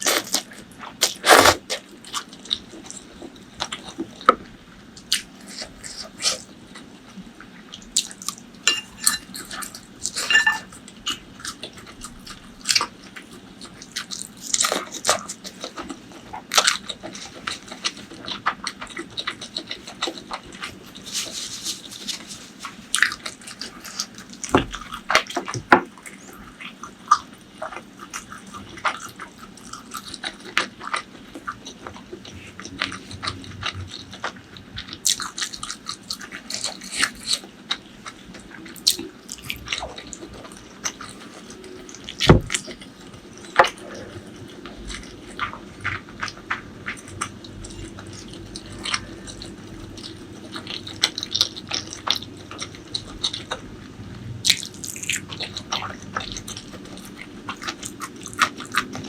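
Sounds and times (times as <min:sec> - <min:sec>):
wet chewing and mouth sounds: 0:00.0 - 0:59.0.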